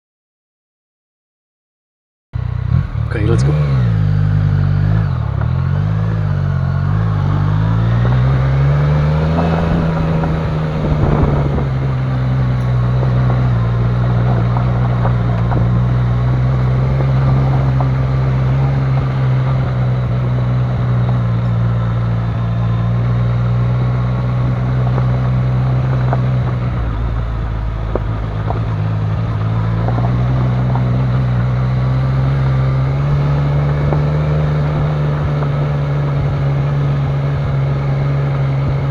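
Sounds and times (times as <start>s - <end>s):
motorcycle engine riding slowly: 2.4s - 38.9s.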